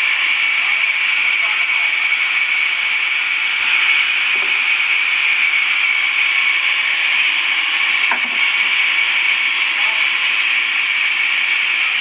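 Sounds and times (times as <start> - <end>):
saw blade cutting wood: 0.0 - 12.0.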